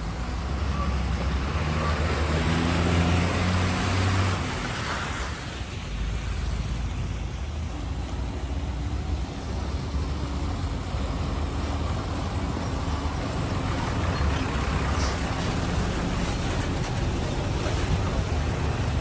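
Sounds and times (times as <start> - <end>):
truck and bus engines rumbling: 0.0 - 19.0.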